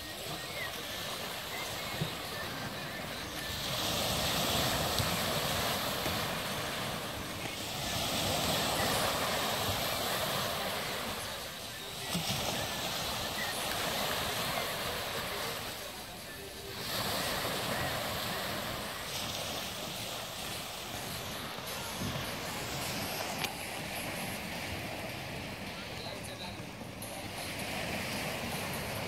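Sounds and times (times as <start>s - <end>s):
waves washing onto stony beach: 0.0s - 29.0s.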